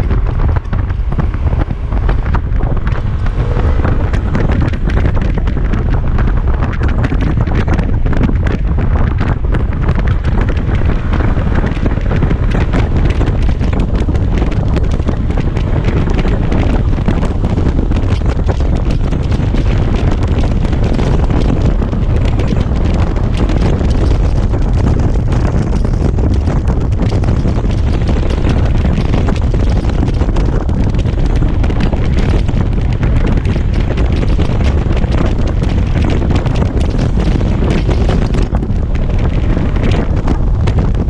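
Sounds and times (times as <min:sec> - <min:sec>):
scooter engine running: 0:00.0 - 0:41.0
wind rush on microphone: 0:00.0 - 0:41.0.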